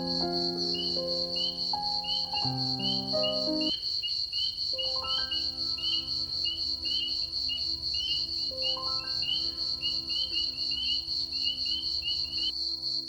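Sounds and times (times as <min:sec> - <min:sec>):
soft background music: 0:00.0 - 0:03.8, 0:04.8 - 0:13.0
crickets chirping: 0:00.0 - 0:13.0.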